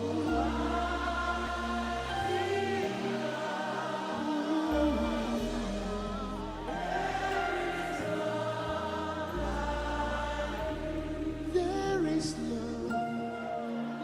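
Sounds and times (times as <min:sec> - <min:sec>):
slow gospel worship music: 0:00.0 - 0:14.0
voices singing: 0:00.0 - 0:14.0.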